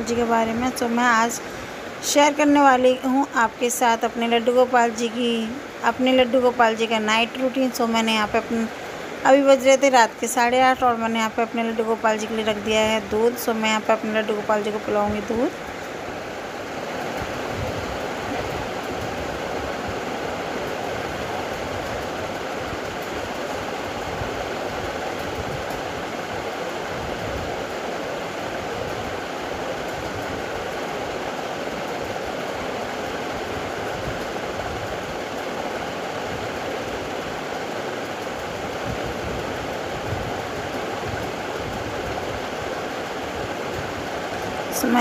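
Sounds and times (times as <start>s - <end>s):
steady rushing noise: 0.0s - 45.0s.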